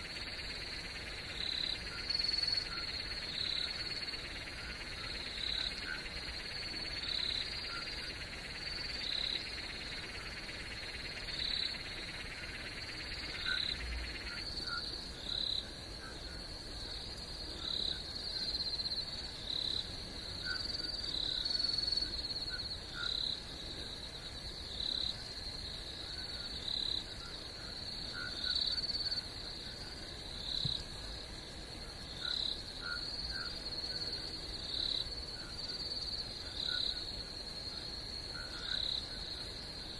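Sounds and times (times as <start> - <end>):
faint low insect chirps: 0.0 - 39.9
loud insect chirp: 0.0 - 39.9.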